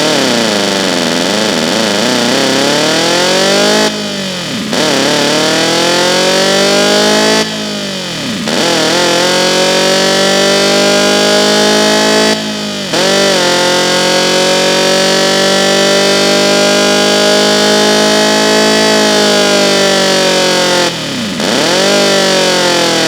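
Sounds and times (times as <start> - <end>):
synthesized car exhaust accelerating: 0.0 - 23.0.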